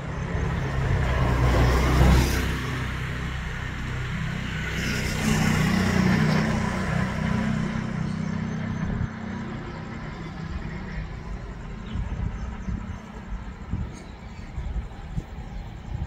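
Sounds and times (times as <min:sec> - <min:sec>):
passenger train rumble: 0:00.0 - 0:16.0.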